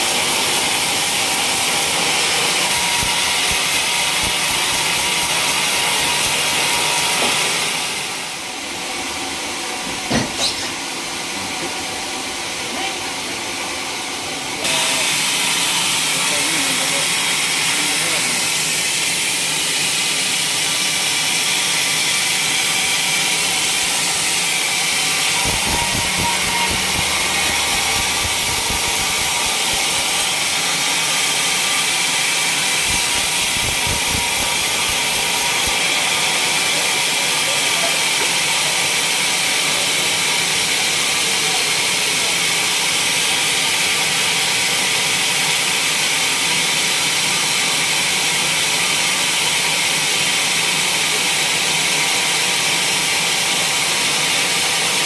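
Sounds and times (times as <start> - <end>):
saw cutting timber: 0.0 - 8.5, 14.6 - 55.0.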